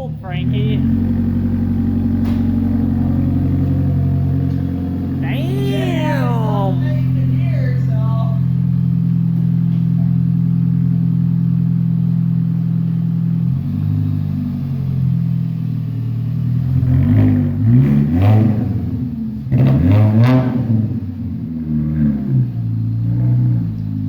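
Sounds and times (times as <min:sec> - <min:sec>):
car engine idling and revving: 0:00.0 - 0:05.2, 0:08.5 - 0:24.0.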